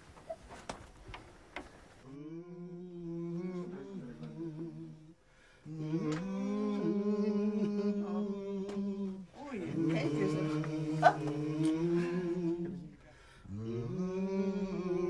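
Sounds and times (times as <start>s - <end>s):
person humming a slow tune: 2.1s - 15.0s.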